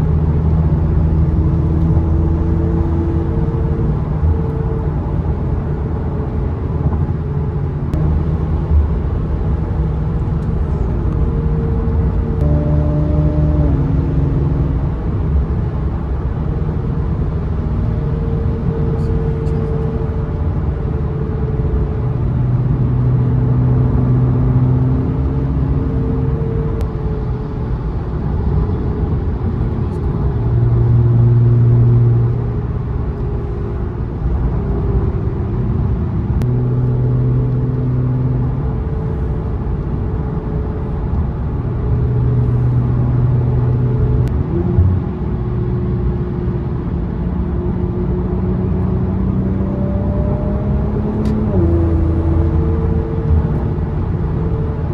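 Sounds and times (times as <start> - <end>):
car engine accelerating: 0.0 - 54.9
road noise: 0.0 - 54.9.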